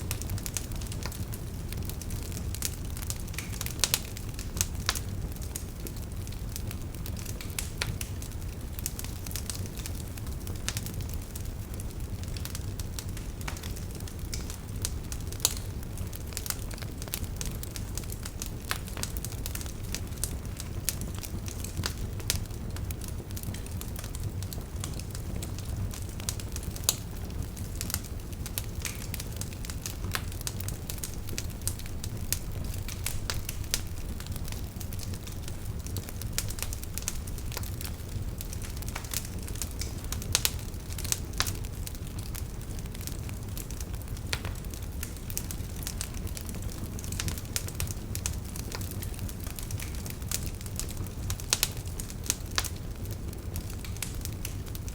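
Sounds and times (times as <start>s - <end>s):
fire crackling and popping: 0.0s - 54.9s
fire low rumble: 0.0s - 54.9s.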